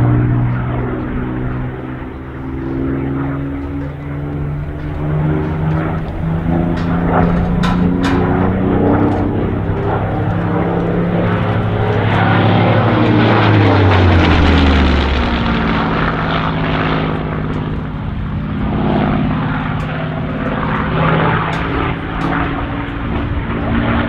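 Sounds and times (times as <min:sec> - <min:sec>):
propeller plane engine passing: 0:00.0 - 0:24.0.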